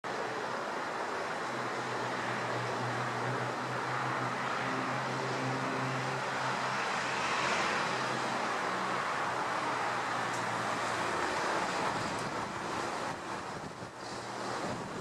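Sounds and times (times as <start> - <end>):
constant rushing background noise: 0.1 - 15.0.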